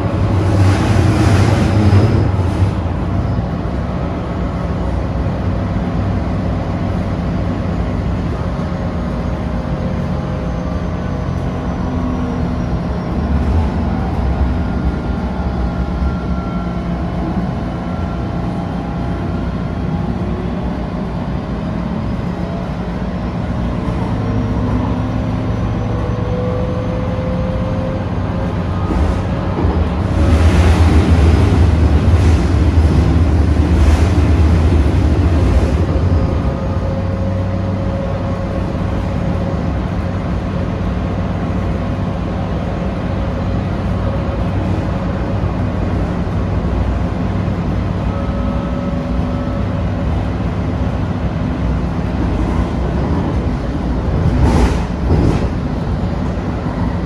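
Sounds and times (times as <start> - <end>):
light rail car rumble: 0.0 - 57.0.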